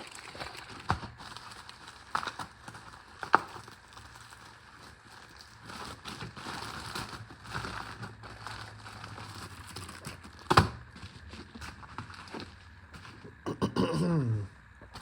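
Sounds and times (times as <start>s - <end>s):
packaging rustling and crinkling: 0.0s - 13.4s.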